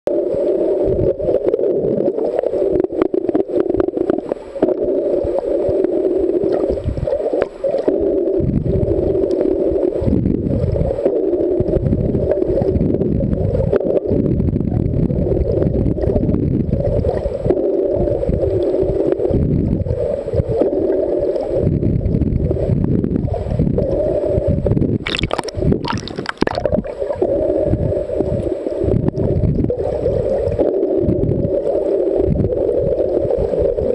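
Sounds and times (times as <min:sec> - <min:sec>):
underwater gurgling rumble: 0:00.1 - 0:33.9.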